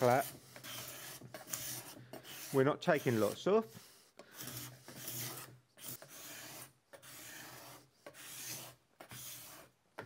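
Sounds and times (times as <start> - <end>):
scraper strokes on wood: 0.0 - 9.8.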